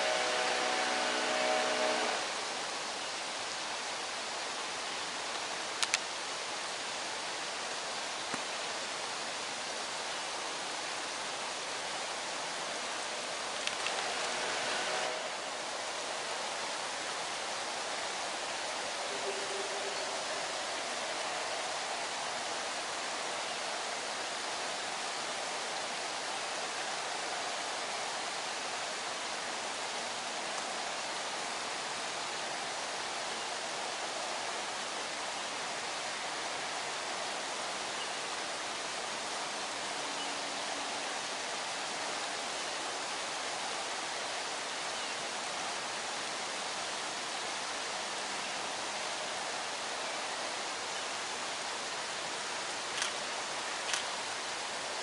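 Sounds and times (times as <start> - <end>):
steady rushing hiss: 0.0 - 55.0.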